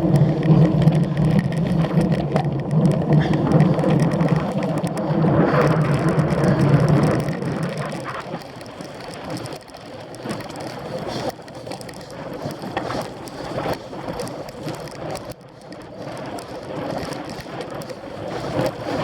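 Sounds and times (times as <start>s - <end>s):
bike rattling clicks: 0.0s - 19.0s
wind and tyre noise: 0.0s - 19.0s.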